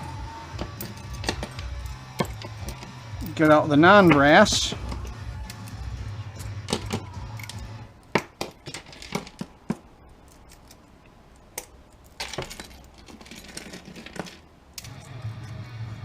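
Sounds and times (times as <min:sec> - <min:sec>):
scrap metal clinking: 0:00.0 - 0:10.9, 0:11.6 - 0:15.6.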